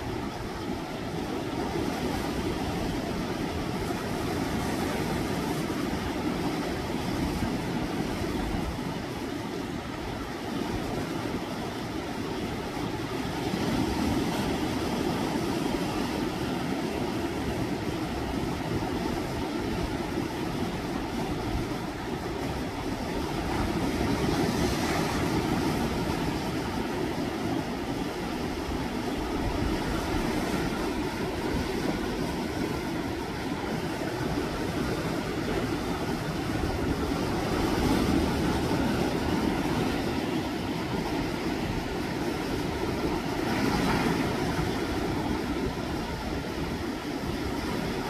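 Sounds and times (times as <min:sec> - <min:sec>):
sea waves surging against rocks: 0:00.0 - 0:48.0.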